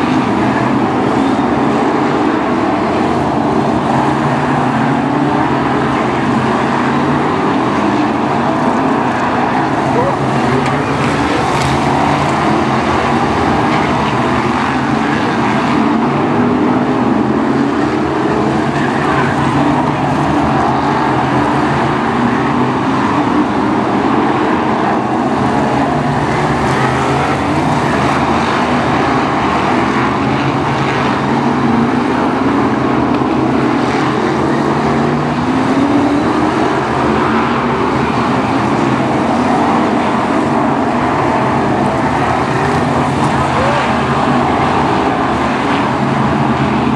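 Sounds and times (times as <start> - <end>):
racing car engines: 0.0 - 46.9.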